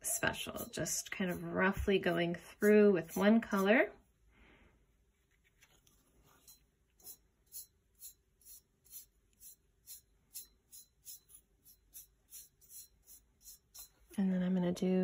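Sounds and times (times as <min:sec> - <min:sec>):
brush bristles scratching: 0:00.1 - 0:03.9, 0:05.2 - 0:14.2.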